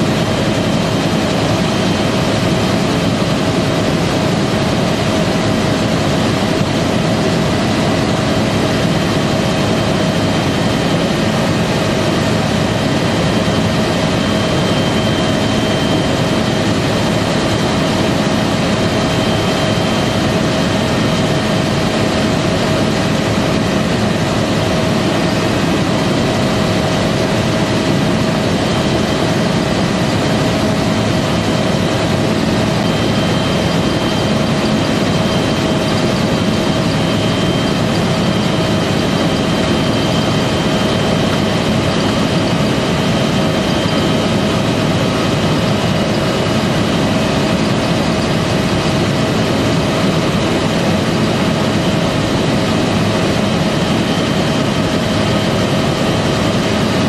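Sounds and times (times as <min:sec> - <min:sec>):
helicopter engine and rotor rumble: 0:00.0 - 0:57.0.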